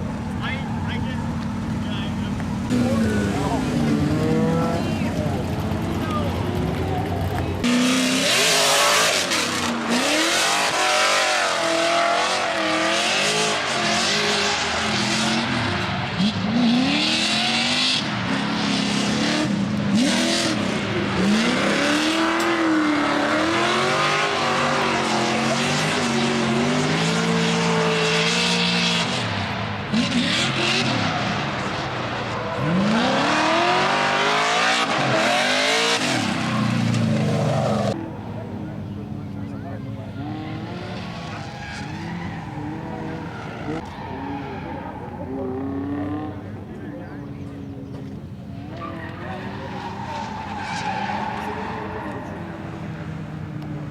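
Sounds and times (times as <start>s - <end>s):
exhaust and tyre rush: 0.0s - 53.9s
race car engines revving: 0.0s - 53.9s.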